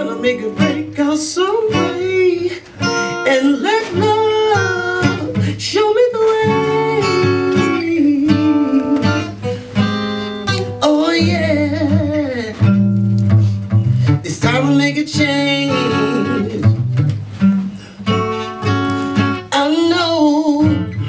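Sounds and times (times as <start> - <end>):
man singing: 0.0 - 13.0, 14.0 - 17.0, 18.0 - 21.0
acoustic guitar chords: 0.0 - 21.0.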